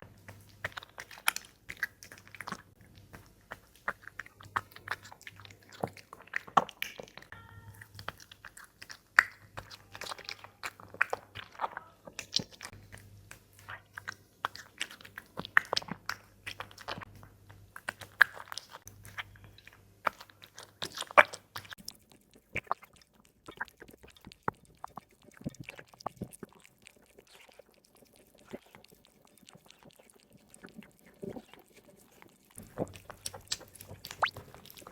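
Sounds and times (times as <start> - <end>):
cat chewing crunchy food: 0.0 - 34.9.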